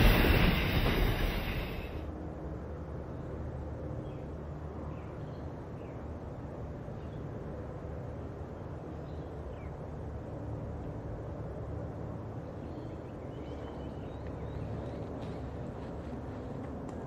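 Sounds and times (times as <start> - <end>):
distant freight train rumble: 0.0 - 17.0.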